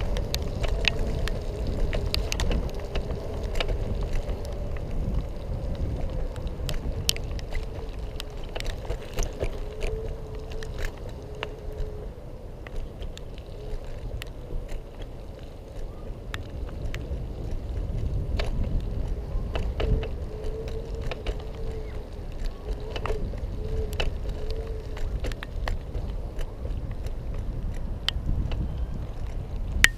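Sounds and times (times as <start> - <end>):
electric scooter whine: 0.0 - 29.9.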